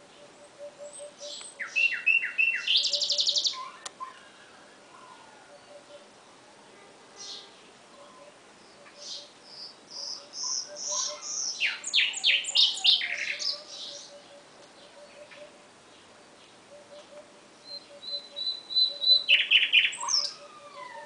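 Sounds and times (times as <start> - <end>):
nightingale singing: 0.0 - 6.4, 7.2 - 21.0.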